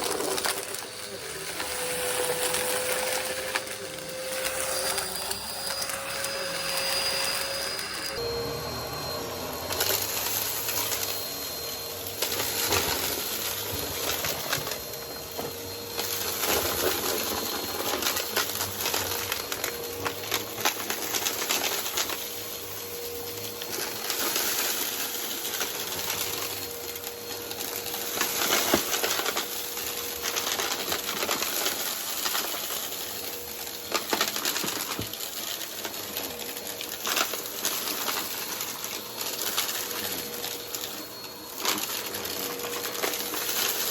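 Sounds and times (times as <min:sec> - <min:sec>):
vacuum cleaner on carpet: 0:00.0 - 0:43.9.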